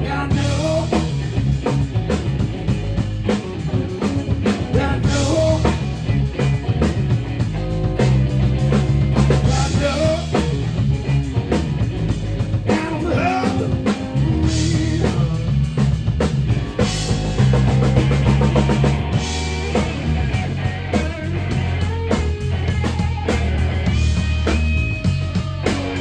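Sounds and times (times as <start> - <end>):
drum kit: 0.0 - 26.0
electric bass: 0.0 - 26.0
electric guitar: 0.0 - 26.0.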